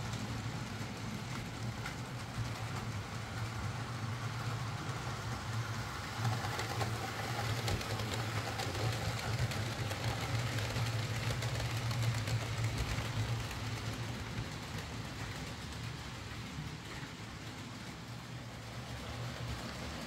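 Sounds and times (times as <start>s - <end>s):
model train motors humming: 0.0s - 20.0s
wheels rolling on track: 0.0s - 20.0s.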